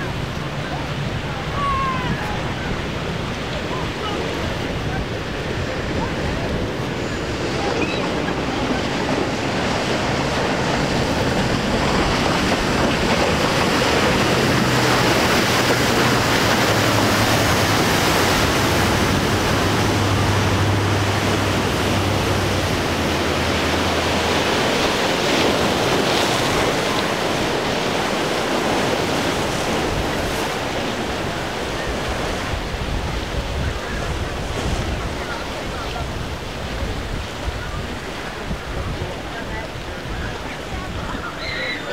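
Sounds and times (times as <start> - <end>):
boat engines droning: 0.0 - 41.9
surf and churning water: 0.0 - 41.9
wind buffeting microphone: 0.0 - 41.9.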